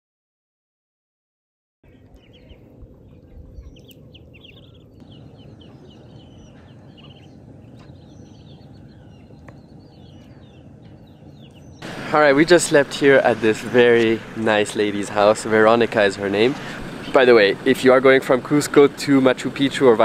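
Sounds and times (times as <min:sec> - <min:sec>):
birds chirping and calling: 0:01.8 - 0:20.0
steady low background noise: 0:01.9 - 0:20.0.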